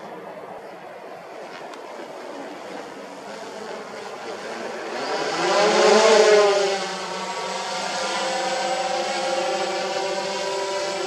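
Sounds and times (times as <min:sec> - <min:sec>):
drone propeller buzz flying past: 0:01.1 - 0:11.0.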